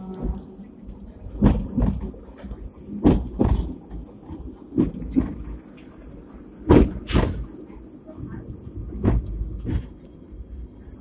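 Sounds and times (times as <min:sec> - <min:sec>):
tram rumbling along track: 0:00.0 - 0:11.0.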